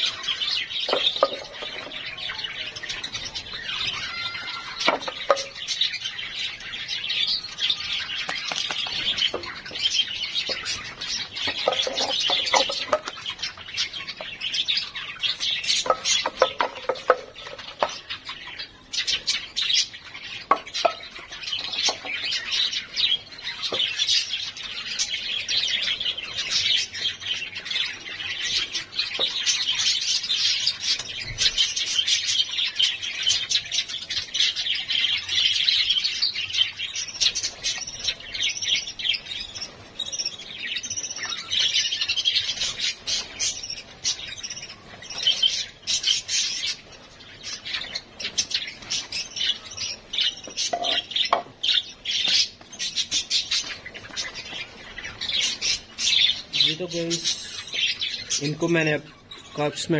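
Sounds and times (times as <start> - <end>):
budgerigars chirping and chattering: 0.0 - 59.9.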